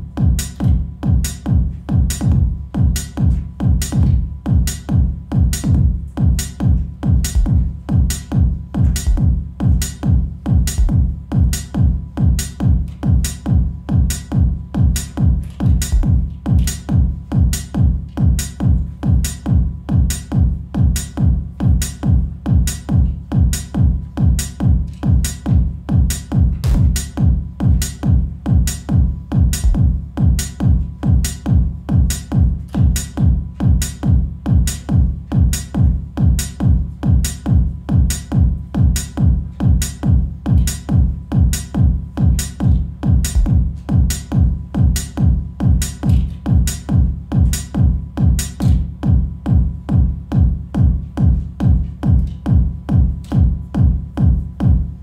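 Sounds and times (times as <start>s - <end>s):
drum machine kick: 0.0s - 55.0s
synthesizer bass line: 0.0s - 55.0s.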